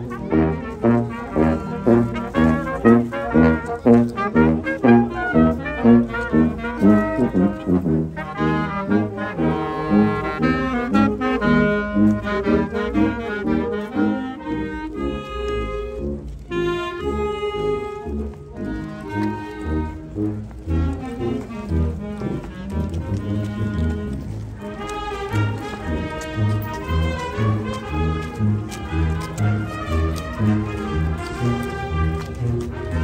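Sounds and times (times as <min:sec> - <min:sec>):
clarinet melody: 0:00.0 - 0:33.0
wind band playing a march: 0:00.0 - 0:33.0.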